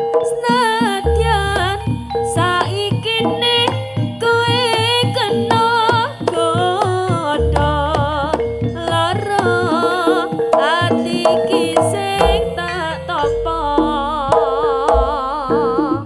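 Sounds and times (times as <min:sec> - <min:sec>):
gamelan music: 0:00.0 - 0:16.0
hand drum strokes: 0:00.0 - 0:16.0.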